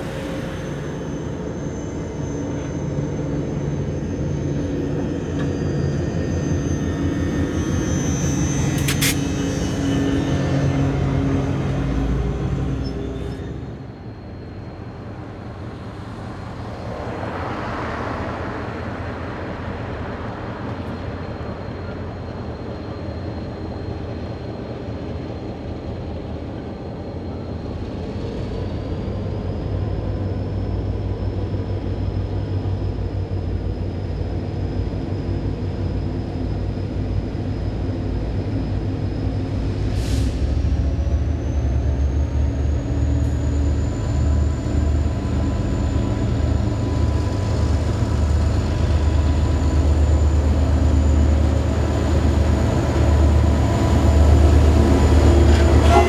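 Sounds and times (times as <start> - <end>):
diesel locomotive engine running: 0.0 - 56.0
rising whine: 0.0 - 56.0.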